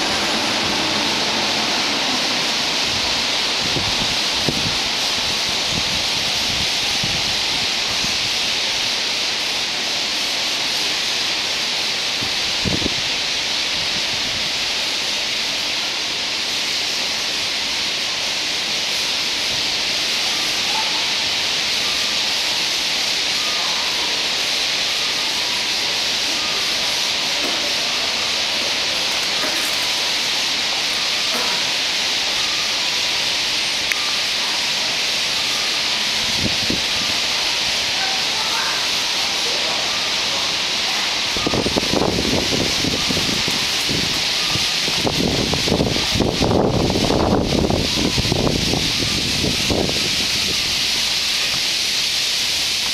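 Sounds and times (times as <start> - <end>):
flock of starlings chattering: 2.7 - 52.9.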